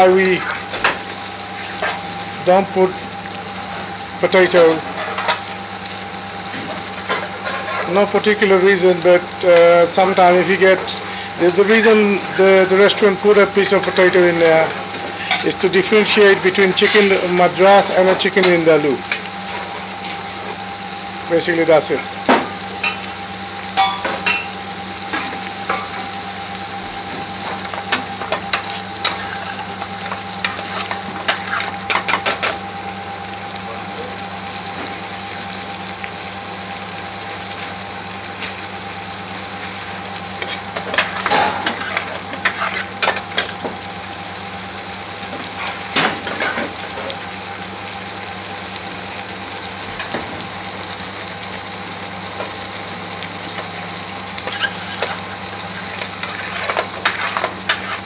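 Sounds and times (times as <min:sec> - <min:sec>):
sauce sizzling and bubbling: 0:00.0 - 0:58.0.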